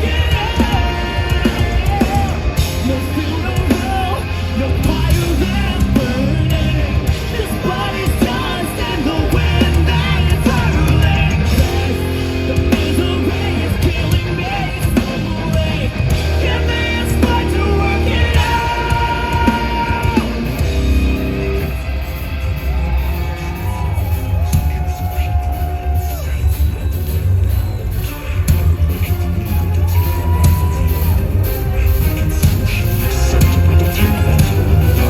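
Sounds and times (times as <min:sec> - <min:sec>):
live metal band playing: 0:00.0 - 0:35.0
person singing: 0:00.0 - 0:35.0.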